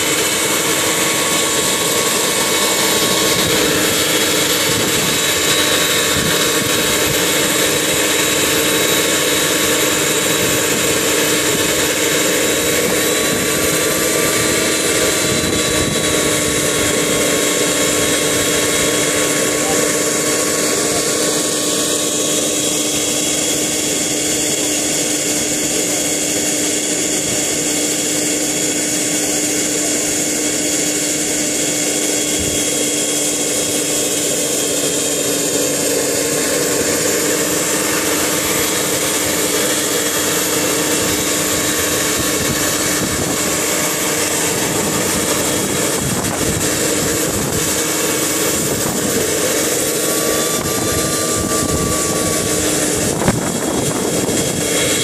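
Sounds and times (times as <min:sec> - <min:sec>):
helicopter rotor noise: 0:00.0 - 0:55.0
high turbine whine: 0:00.0 - 0:55.0.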